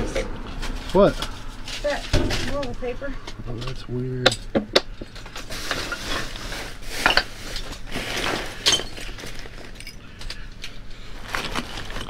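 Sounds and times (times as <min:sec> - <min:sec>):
junk clinking and rattling: 0:02.0 - 0:12.0.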